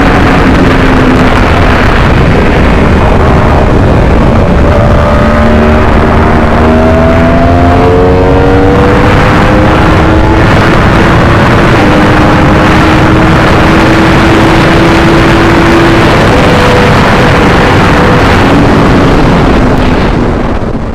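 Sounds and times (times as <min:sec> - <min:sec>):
heavy rushing noise: 0:00.0 - 0:20.9
motorcycle engine at high revs: 0:00.0 - 0:20.9.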